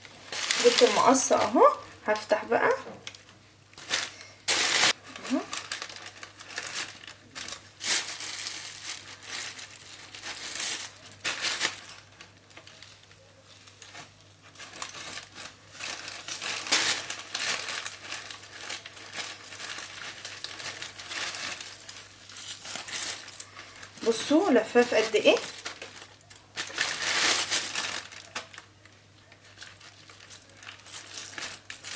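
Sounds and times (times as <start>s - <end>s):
plastic film crinkling: 0.0s - 31.9s.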